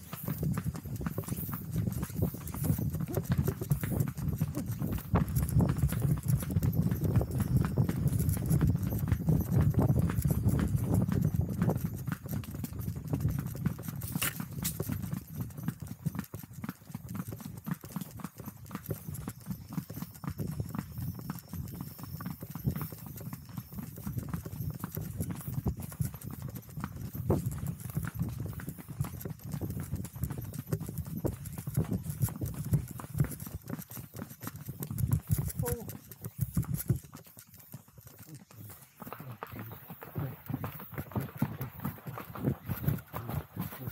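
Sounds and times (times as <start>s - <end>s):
hooves clip-clopping on pavement: 0.0s - 43.9s.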